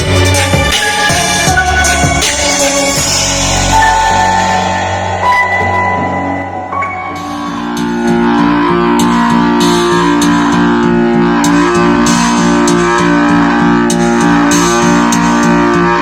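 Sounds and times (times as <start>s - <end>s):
plucked guitar music over fast beat: 2.9s - 16.0s.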